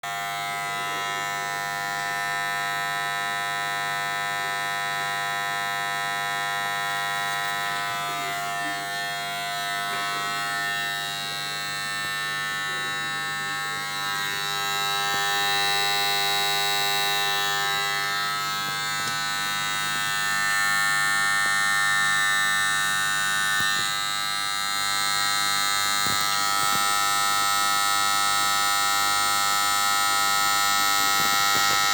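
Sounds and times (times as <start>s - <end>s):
voltage stabilizer humming: 5.8s - 31.9s.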